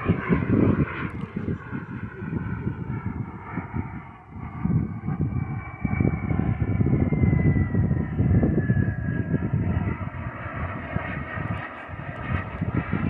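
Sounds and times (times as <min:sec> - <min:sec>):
model jet engine whine: 0:00.0 - 0:13.0
wind rumble on microphone: 0:00.0 - 0:13.0.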